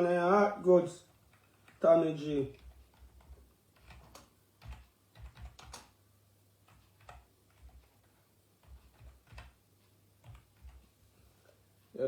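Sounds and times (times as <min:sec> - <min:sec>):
faint irregular clicks: 0:01.0 - 0:06.0, 0:06.6 - 0:12.0.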